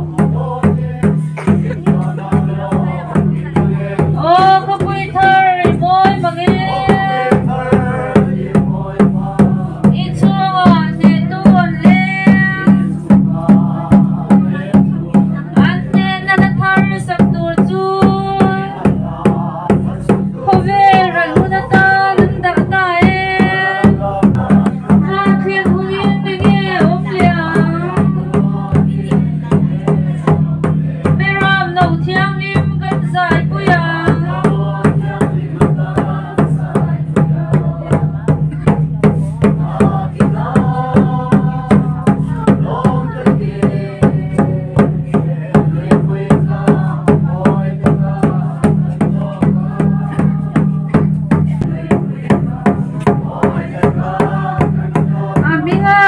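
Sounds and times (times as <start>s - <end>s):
crowd singing in unison: 0.0s - 56.0s
large drum beaten steadily: 0.0s - 56.0s.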